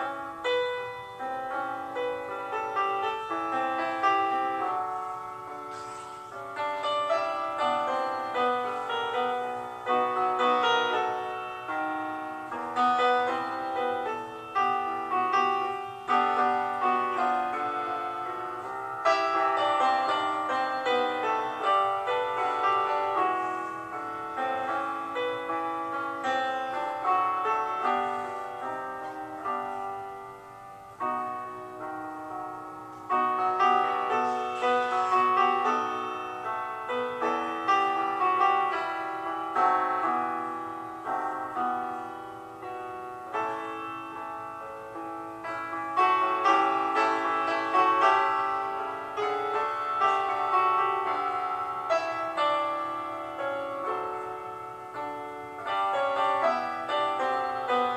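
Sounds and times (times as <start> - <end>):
piano notes and chords: 0.0 - 57.9.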